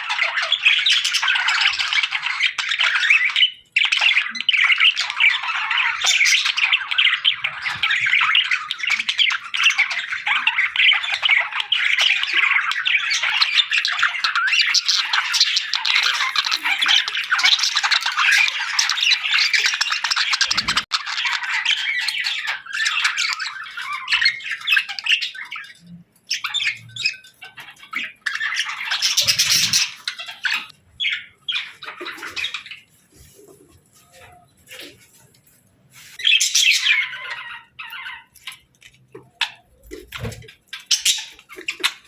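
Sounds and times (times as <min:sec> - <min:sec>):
small birds chirping and squawking: 0:00.0 - 0:42.0.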